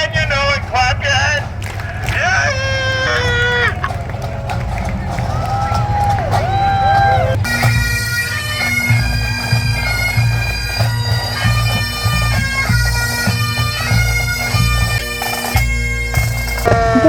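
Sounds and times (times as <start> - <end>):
bagpipes playing marching tune: 0.0 - 17.0.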